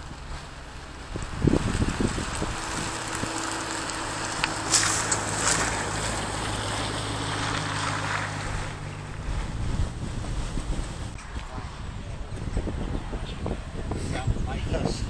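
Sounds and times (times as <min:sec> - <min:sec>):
car engine driving past: 0:00.0 - 0:14.0
wind buffeting microphone: 0:00.0 - 0:15.0.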